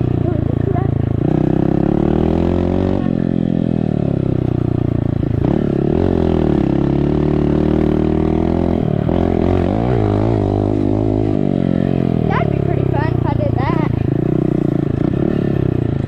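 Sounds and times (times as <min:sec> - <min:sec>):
small engine revving: 0:00.0 - 0:16.0.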